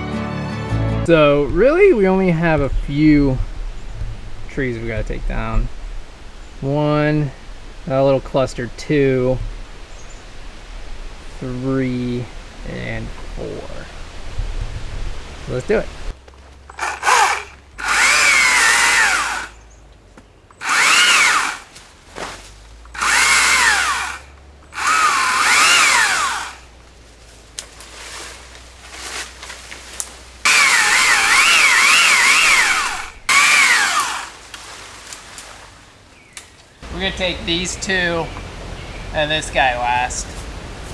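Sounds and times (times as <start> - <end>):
chainsaw cutting: 1.2 - 19.6, 20.6 - 35.6.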